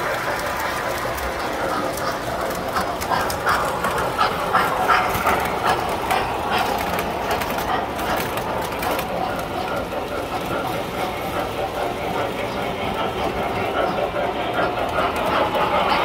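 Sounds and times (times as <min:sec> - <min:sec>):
rumble of model train wheels and motors: 0:00.0 - 0:16.0
wheels clicking over rails: 0:00.0 - 0:16.0.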